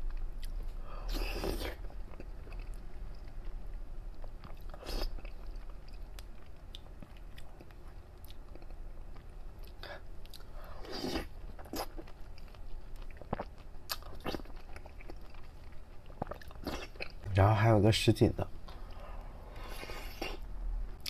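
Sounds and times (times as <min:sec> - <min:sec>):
chewing fruit jelly: 0:00.0 - 0:17.2.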